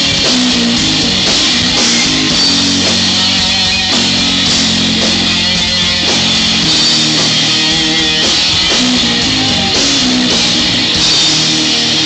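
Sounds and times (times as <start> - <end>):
bass guitar: 0.0 - 12.0
distorted electric guitar: 0.0 - 12.0
drum kit: 0.0 - 12.0.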